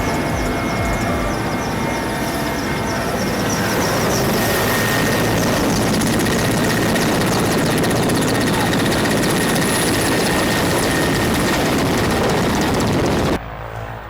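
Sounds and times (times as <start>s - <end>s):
helicopter engine and rotor: 0.0s - 13.4s.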